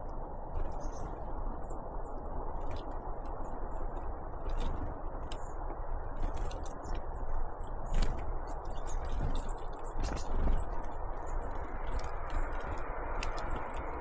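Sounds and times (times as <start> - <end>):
low background noise: 0.0 - 14.0
birds pecking at a feeder: 2.0 - 14.0.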